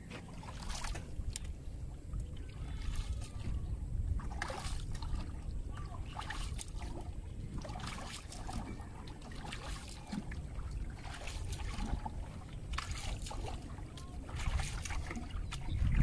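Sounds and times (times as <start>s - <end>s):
paddle splashing in water: 0.0s - 16.0s
steady low rumble: 0.0s - 16.0s.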